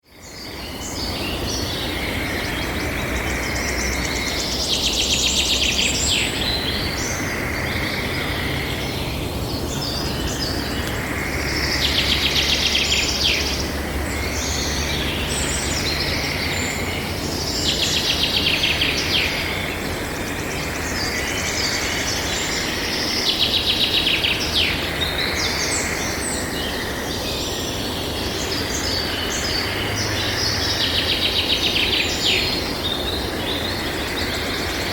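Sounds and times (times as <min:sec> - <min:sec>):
frogs calling: 0:00.0 - 0:34.9
birds calling: 0:00.2 - 0:34.9.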